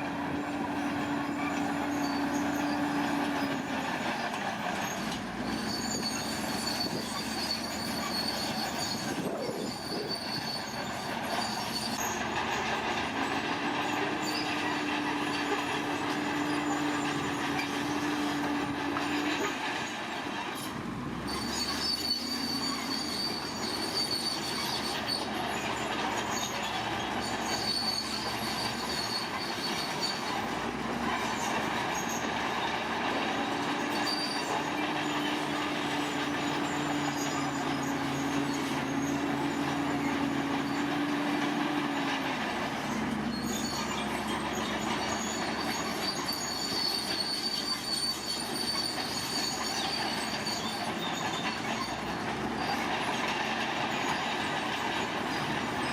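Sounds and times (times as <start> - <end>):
diesel engine running: 0.0 - 55.9
high metallic squeal: 0.1 - 55.9.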